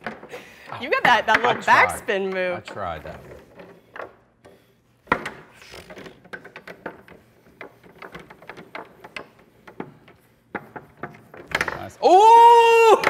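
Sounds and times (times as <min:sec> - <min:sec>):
foosball knocks and clacks: 0:00.0 - 0:12.0.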